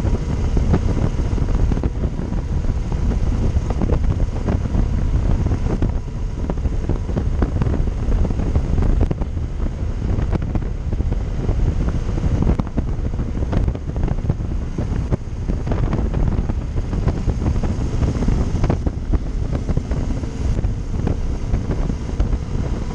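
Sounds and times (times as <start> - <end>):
motorcycle engine: 0.0 - 22.9
road noise: 0.0 - 22.9
wind buffeting microphone: 0.0 - 22.9.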